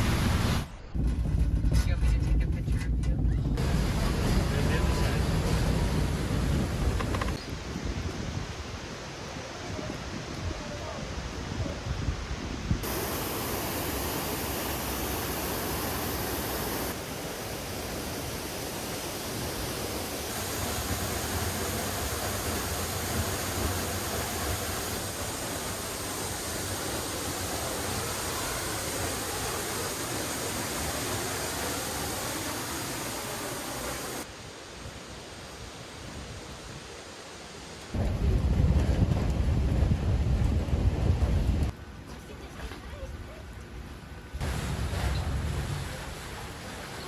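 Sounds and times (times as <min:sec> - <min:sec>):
rushing water roar: 0:00.0 - 0:00.9, 0:03.6 - 0:41.8, 0:44.3 - 0:47.0.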